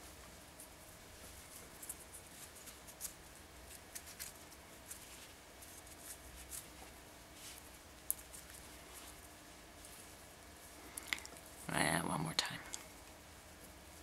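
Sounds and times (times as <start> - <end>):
threads rustling and ticking: 0.0 - 14.0.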